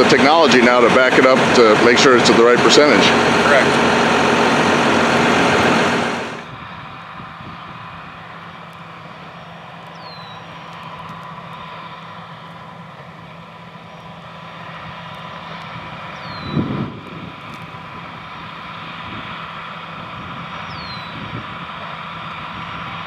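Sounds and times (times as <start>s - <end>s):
distant tractor engine: 0.0s - 23.0s
loud baler machinery noise: 0.0s - 23.0s.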